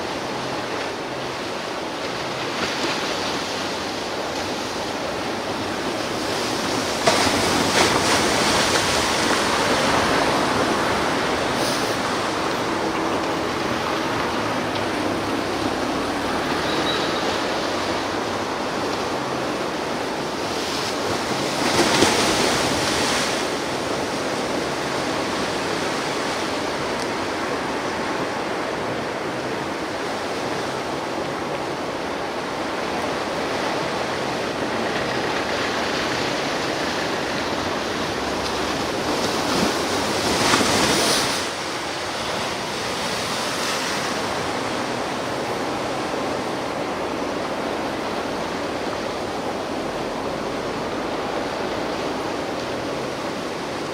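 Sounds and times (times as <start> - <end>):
surf washing onto shore: 0.0 - 53.9
waves breaking loudly: 0.0 - 53.9.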